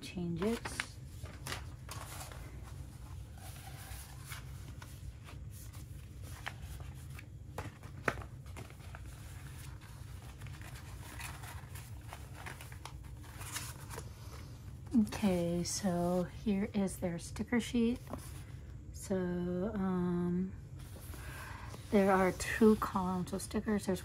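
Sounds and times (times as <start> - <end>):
low steady hum: 0.0 - 24.0
soft rustles of handling: 0.1 - 16.3, 17.9 - 18.8, 20.8 - 23.4.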